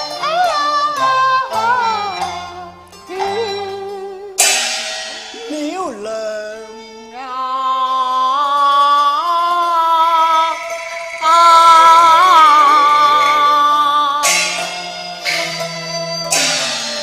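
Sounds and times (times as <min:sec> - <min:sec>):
person singing opera: 0:00.0 - 0:04.4, 0:05.4 - 0:15.7
instrumental accompaniment: 0:00.0 - 0:17.0.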